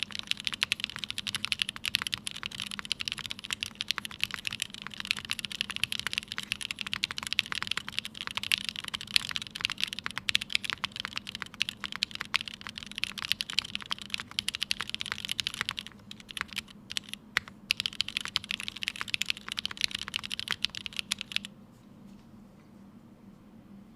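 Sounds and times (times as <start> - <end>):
mechanical keyboard typing: 0.0 - 21.5.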